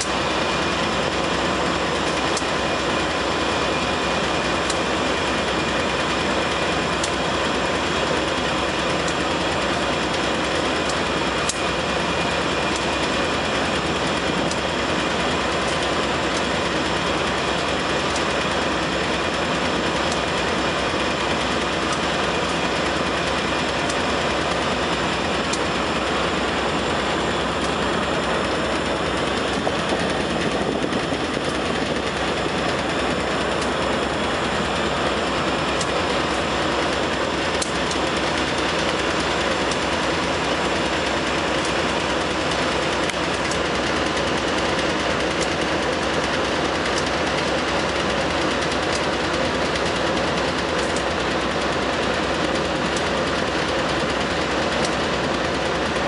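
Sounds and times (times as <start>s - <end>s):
steel wheels rolling on track: 0.0s - 56.0s.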